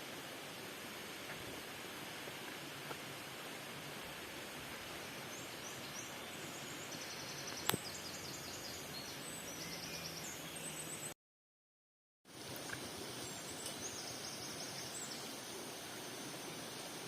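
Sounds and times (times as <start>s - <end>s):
steady hiss: 0.0s - 11.1s, 12.3s - 17.0s.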